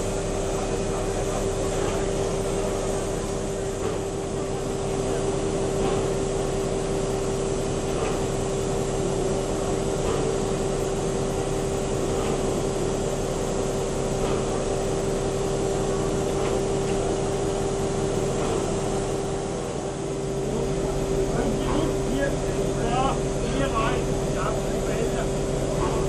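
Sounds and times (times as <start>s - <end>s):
steam locomotive hiss and hum: 0.0s - 26.0s.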